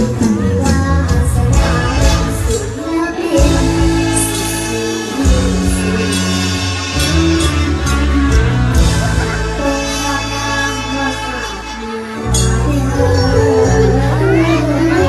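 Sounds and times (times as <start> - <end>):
live stage band music: 0.0 - 15.0.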